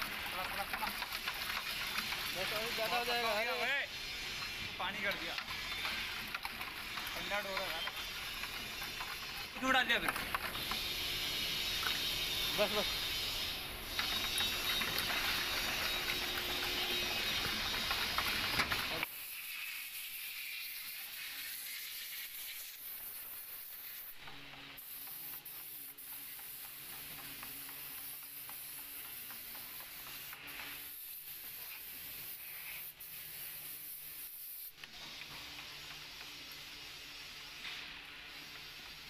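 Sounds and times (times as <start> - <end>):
paint spray gun hissing: 0.0 - 39.0.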